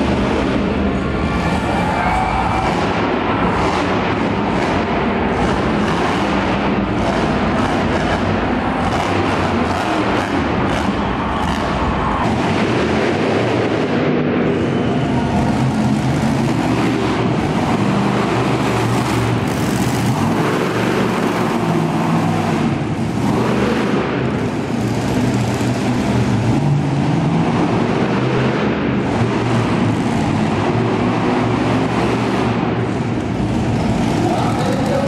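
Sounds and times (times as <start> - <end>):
monster truck engines revving: 0.0 - 35.0.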